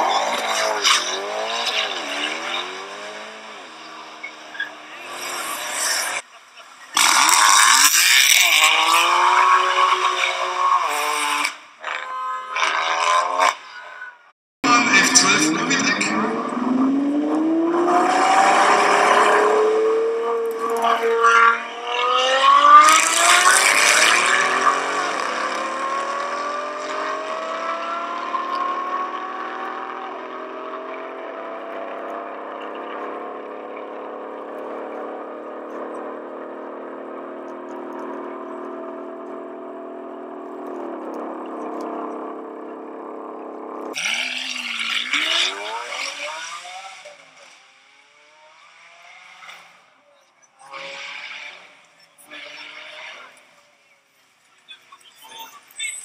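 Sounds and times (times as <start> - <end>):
car engine accelerating hard: 0.0 - 6.3, 6.9 - 11.5, 14.6 - 49.8
car engine revving sharply: 0.0 - 6.3, 6.9 - 12.0, 14.6 - 50.0.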